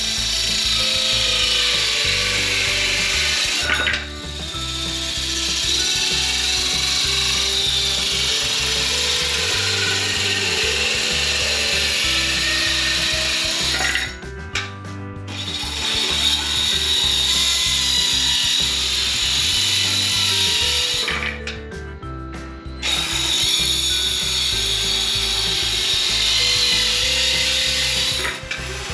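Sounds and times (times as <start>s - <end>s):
circular saw cutting wood: 0.0s - 14.3s, 15.3s - 21.5s, 22.8s - 28.9s.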